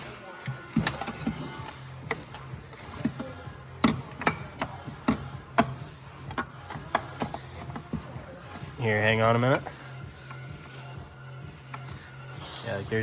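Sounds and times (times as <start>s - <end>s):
low background music: 0.0s - 13.0s.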